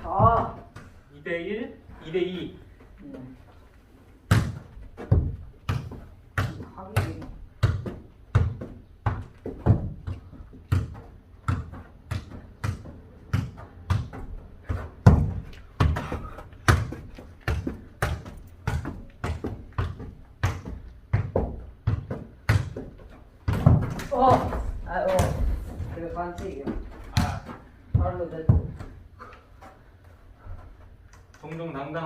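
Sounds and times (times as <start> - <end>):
football dull thuds: 0.0 - 0.9, 4.2 - 29.0.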